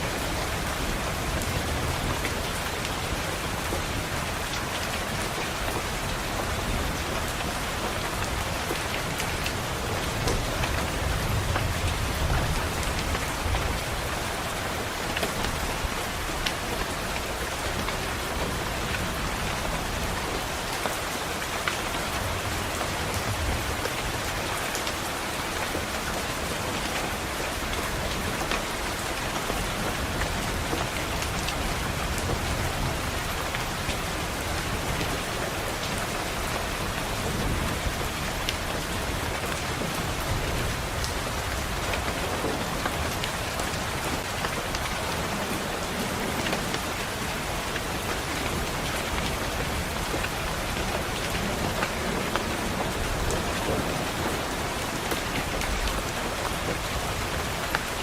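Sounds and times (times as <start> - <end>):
rain hissing on a window: 0.0 - 58.0
raindrops tapping: 0.1 - 58.0.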